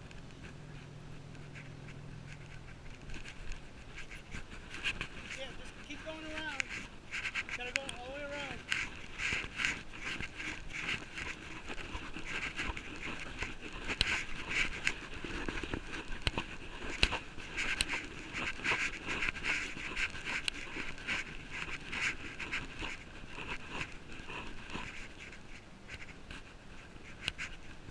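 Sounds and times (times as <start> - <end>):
bike clicks and rattles: 0.0 - 27.9
bike tyres rolling on pavement: 0.0 - 27.9.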